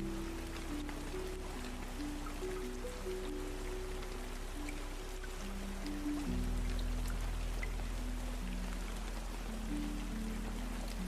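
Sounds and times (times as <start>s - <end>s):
slow ambient music: 0.0s - 11.0s
steady rain: 0.0s - 11.0s
water drips: 0.0s - 11.0s.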